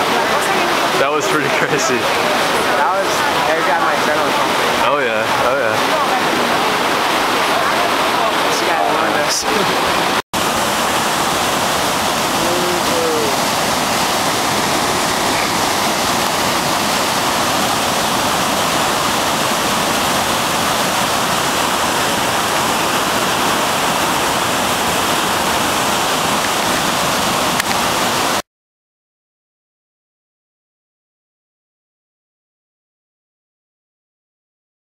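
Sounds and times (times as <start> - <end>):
river rushing over rocks: 0.0 - 28.4.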